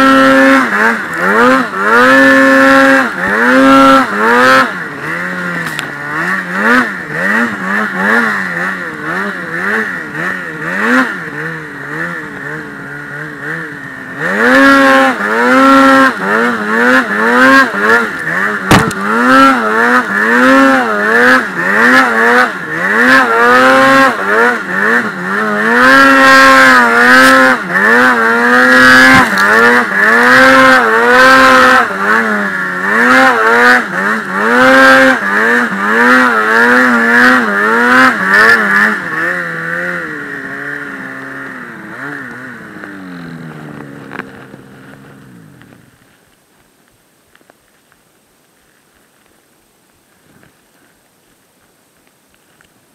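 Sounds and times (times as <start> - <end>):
snowmobile engine revving: 0.0 - 46.0.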